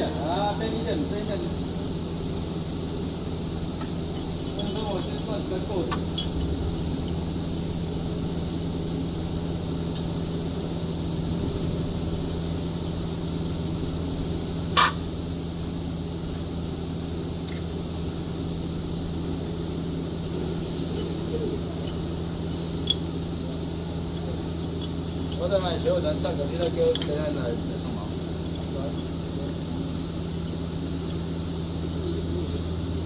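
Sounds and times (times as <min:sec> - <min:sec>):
machinery humming: 0:00.0 - 0:33.0.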